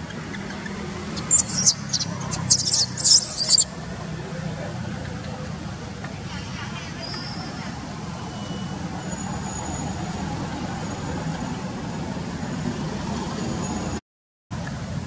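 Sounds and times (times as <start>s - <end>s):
low outdoor rumble: 0.0s - 13.4s.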